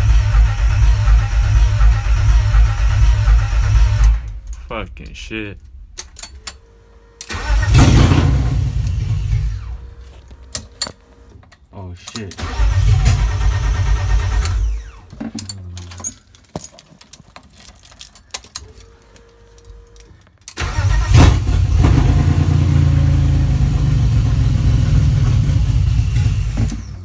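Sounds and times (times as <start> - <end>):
car engine starting and running: 0.0 - 16.5, 19.2 - 27.0.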